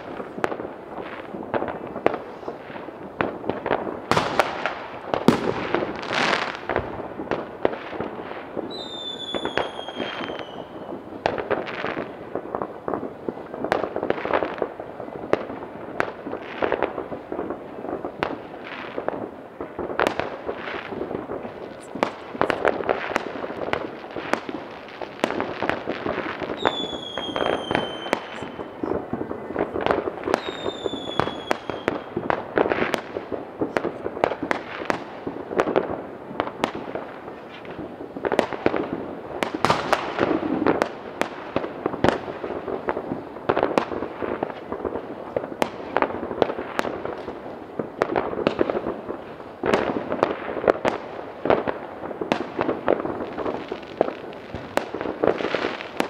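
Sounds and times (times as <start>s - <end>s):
firecracker bangs and cracks: 0.0s - 56.0s
whistling fireworks: 0.0s - 56.0s.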